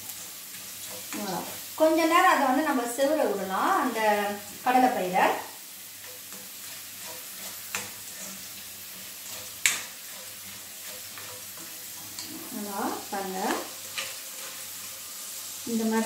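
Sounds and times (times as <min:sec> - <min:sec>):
spices sizzling in hot oil: 0:00.0 - 0:16.0.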